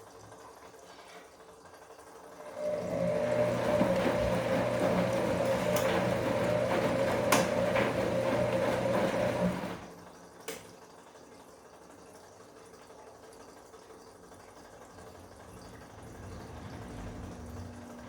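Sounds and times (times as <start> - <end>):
washing machine rushing water: 0.0 - 18.0.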